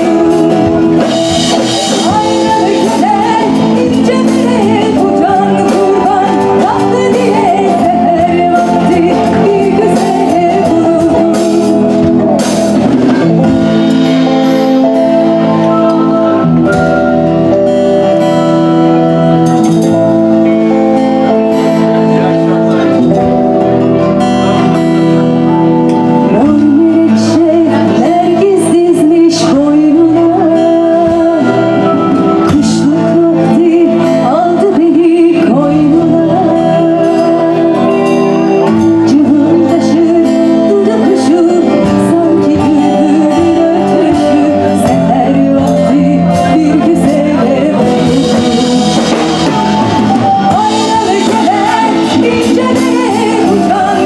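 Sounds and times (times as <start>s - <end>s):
woman singing: 0.0s - 17.0s, 26.1s - 54.0s
live band playing: 0.0s - 54.0s.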